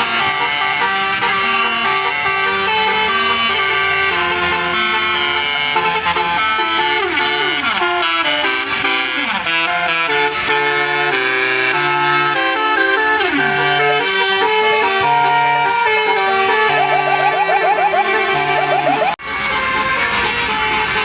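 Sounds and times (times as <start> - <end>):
musical air horn melody: 0.0 - 21.0.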